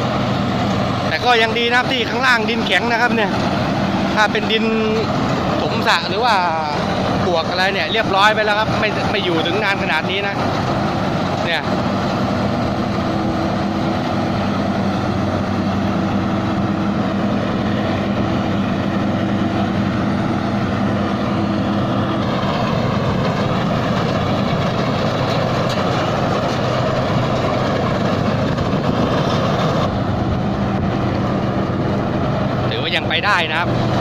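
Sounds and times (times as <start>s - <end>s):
harvester engine drone: 0.0s - 34.0s.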